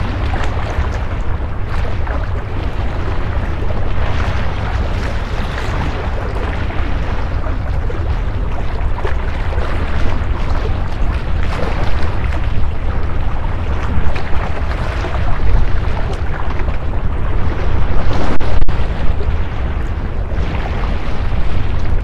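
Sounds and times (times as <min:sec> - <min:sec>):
sea washing on rocks: 0:00.0 - 0:22.0
wind buffeting microphone: 0:00.0 - 0:22.0.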